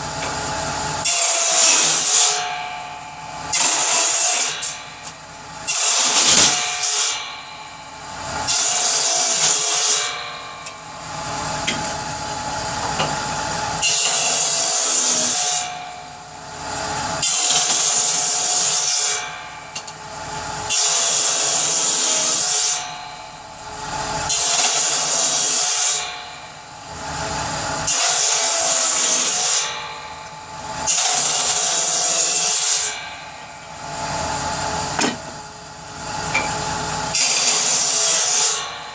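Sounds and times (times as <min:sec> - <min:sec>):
saw cutting through firewood: 0:00.0 - 0:02.6, 0:03.4 - 0:38.9.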